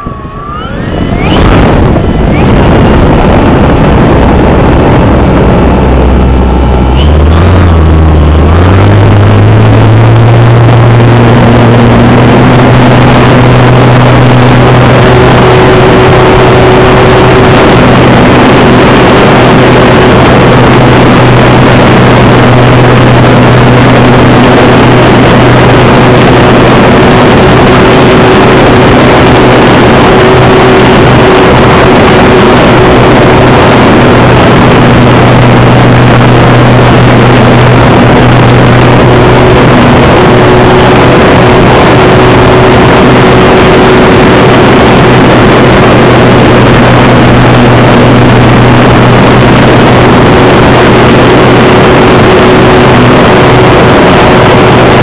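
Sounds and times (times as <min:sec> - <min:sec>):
constant rushing noise: 0:00.0 - 0:55.0
model plane motor and propeller: 0:00.0 - 0:55.0.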